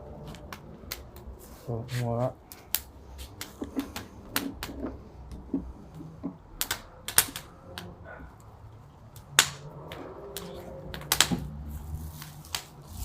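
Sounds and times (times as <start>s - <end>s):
low steady rumble: 0.0s - 13.0s
fire crackling and popping: 0.2s - 1.5s, 2.4s - 13.0s.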